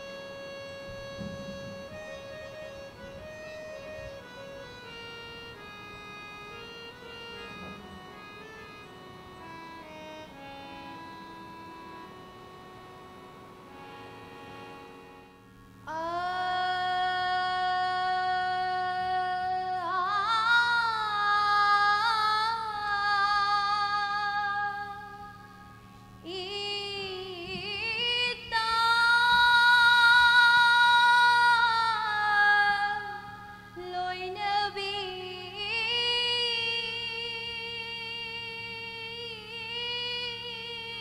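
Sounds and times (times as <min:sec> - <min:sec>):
faint low hum: 0:00.0 - 0:41.0.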